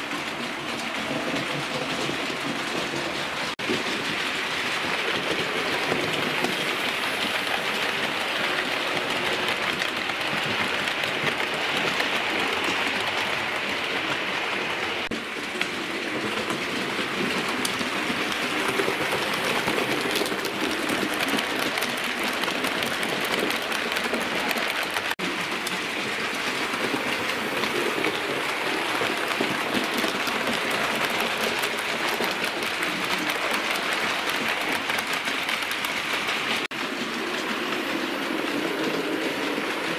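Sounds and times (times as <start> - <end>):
model trains rattling on track: 0.0 - 39.9.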